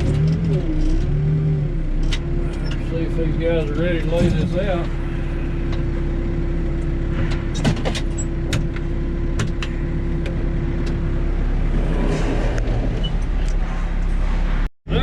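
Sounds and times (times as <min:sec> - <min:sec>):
diesel engine whining: 0:00.0 - 0:15.0.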